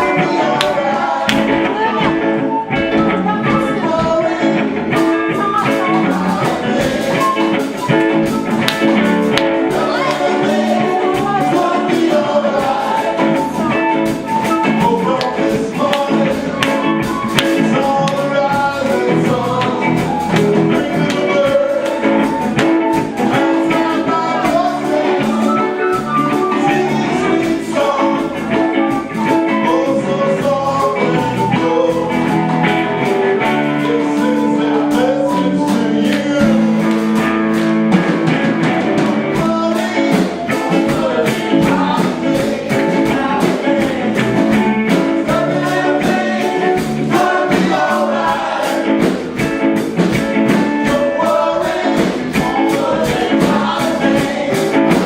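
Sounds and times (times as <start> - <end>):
person singing: 0.0 - 37.7, 38.9 - 49.4, 50.4 - 55.0
guitar: 0.0 - 55.0
steady beat: 0.0 - 55.0.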